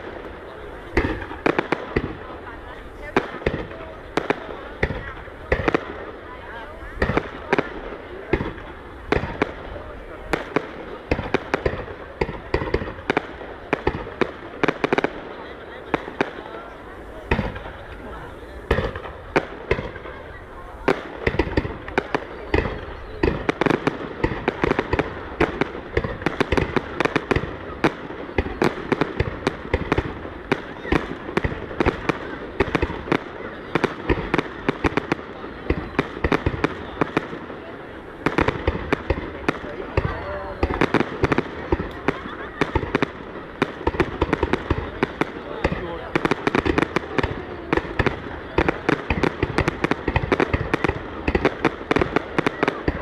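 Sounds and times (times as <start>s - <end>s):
fireworks bangs and cracks: 0.0s - 53.0s.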